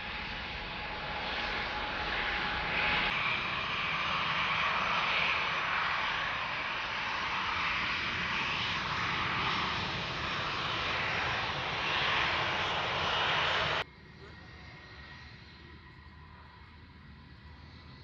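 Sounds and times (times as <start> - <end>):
jet engines at taxi thrust: 0.0 - 18.0.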